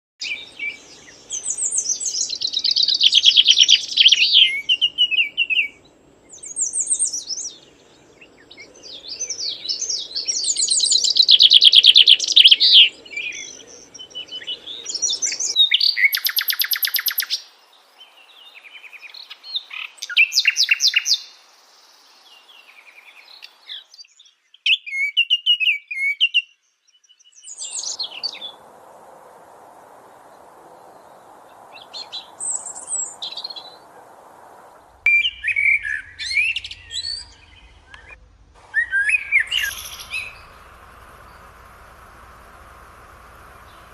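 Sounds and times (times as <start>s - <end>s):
songbirds singing: 0.2s - 28.9s, 29.6s - 43.9s.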